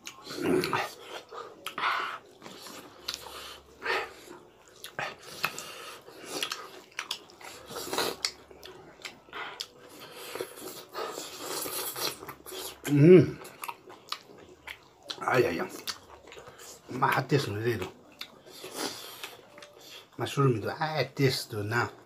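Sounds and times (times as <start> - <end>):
people chewing food: 0.0 - 22.0.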